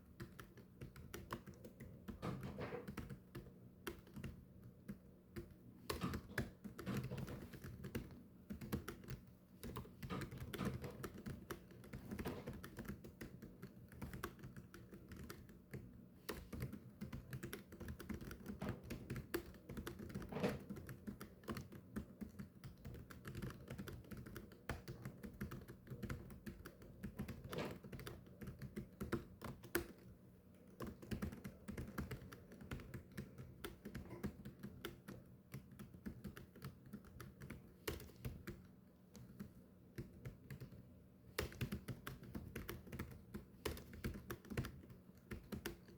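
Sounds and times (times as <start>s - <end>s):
fast typing on keyboard: 0.0s - 45.9s.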